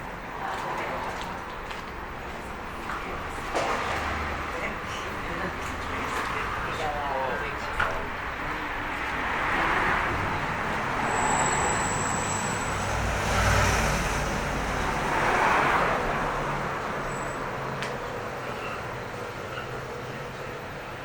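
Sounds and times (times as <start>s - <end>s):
cars passing: 0.0s - 21.0s
heavy vehicle rumble: 0.0s - 21.0s.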